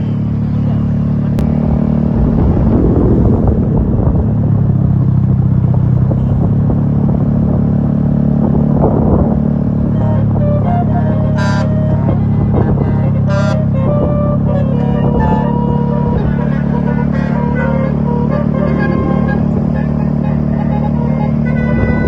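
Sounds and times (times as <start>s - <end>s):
road noise: 0.0s - 22.0s
vehicle engine rumbling hum: 0.0s - 22.0s.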